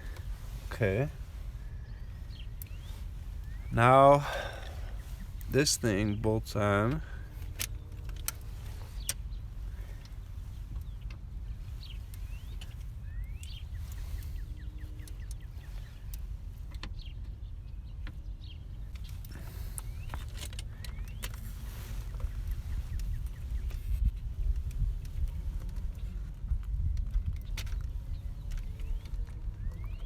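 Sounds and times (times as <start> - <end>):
low background rumble: 0.0 - 30.0.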